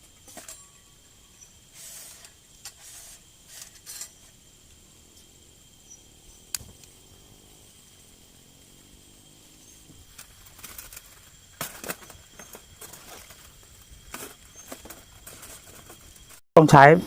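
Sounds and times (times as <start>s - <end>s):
faint insect chirring: 0.0s - 16.7s.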